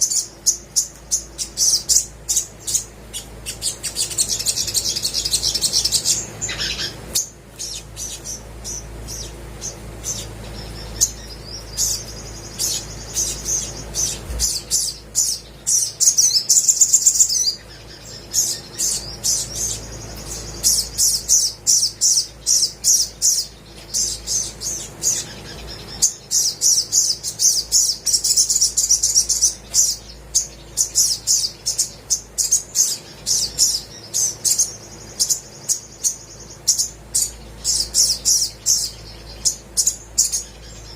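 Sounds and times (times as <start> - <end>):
bird trilling: 0.0 - 40.9
sunbird chirping: 0.0 - 40.9.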